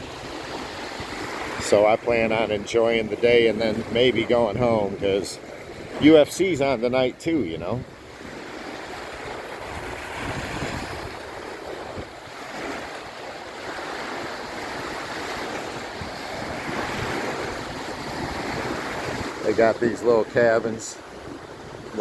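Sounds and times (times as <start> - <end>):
waves washing onto shore: 0.0 - 22.0
wind buffeting microphone: 0.0 - 22.0.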